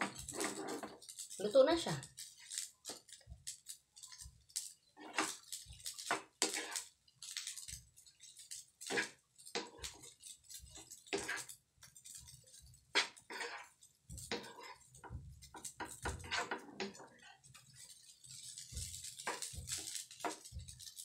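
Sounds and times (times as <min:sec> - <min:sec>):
spatula scraping frying pan: 0:00.0 - 0:21.0.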